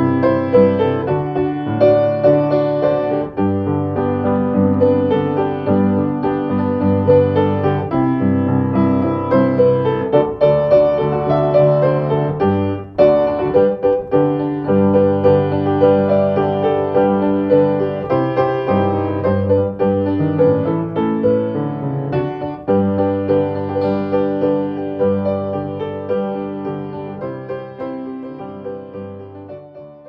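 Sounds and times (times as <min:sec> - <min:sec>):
solo piano chords: 0:00.0 - 0:30.0.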